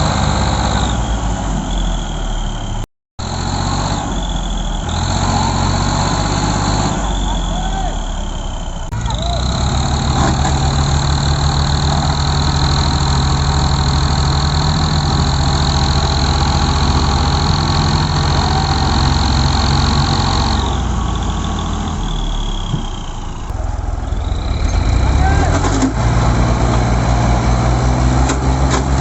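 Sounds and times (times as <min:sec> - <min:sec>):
tractor diesel engine straining: 0:00.0 - 0:29.0.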